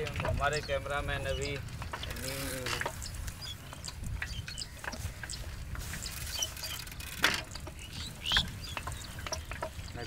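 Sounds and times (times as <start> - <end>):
bicycle rattling on dirt path: 0.0 - 10.0.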